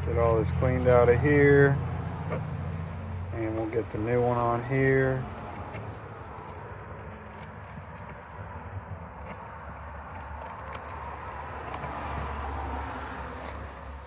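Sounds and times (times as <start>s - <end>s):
faint clicks and handling noises: 2.1s - 14.0s.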